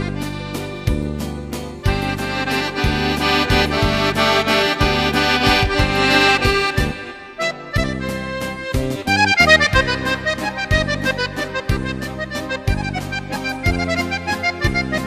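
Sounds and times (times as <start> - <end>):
accordion music: 0.0 - 15.0.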